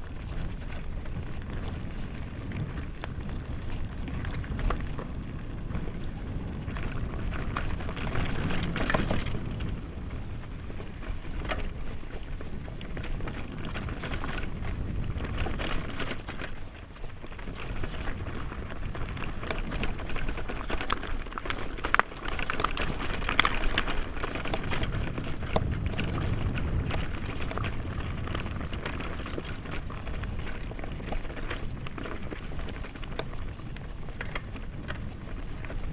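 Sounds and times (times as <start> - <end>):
bike parts clicking and rattling: 0.0 - 35.9
bike rolling over dirt track: 0.0 - 35.9
wind rumbling on microphone: 0.0 - 35.9.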